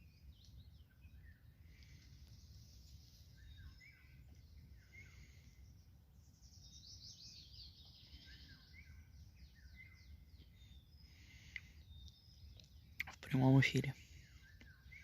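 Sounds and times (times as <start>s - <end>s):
small birds singing: 0.0s - 15.0s.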